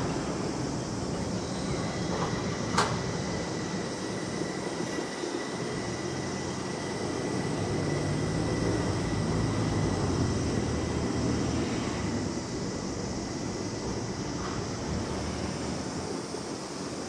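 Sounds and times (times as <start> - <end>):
tram rumbling: 0.0 - 17.0.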